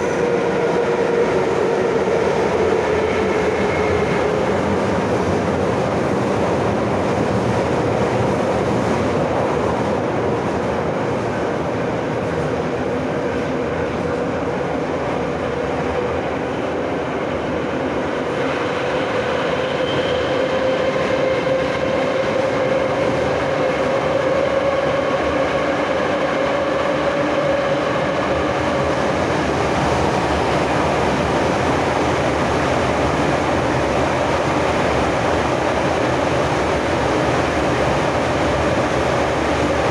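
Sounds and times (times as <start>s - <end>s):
subway car wheels rumbling: 0.0s - 39.9s.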